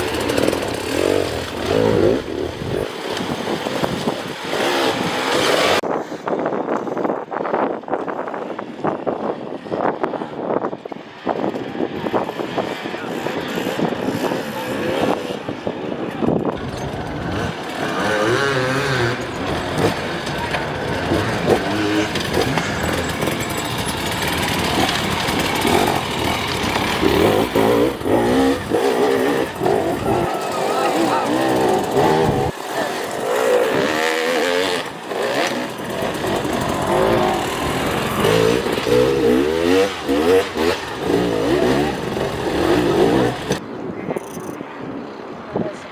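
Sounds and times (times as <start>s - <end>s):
dirt bike engines revving: 0.0s - 6.6s, 8.6s - 44.6s.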